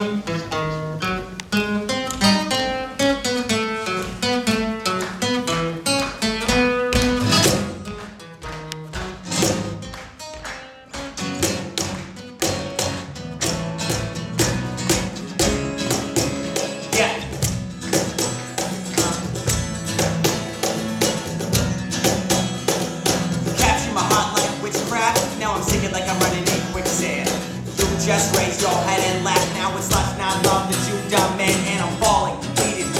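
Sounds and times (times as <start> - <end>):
live band playing: 0.0 - 32.9.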